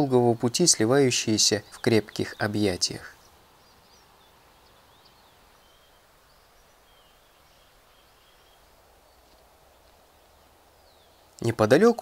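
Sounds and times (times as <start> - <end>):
quiet hiss: 0.0 - 12.0
small bird chirps: 0.0 - 12.0.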